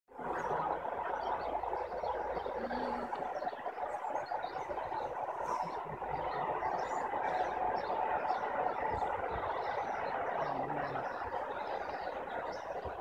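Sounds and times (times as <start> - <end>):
starlings chattering: 0.1 - 13.0.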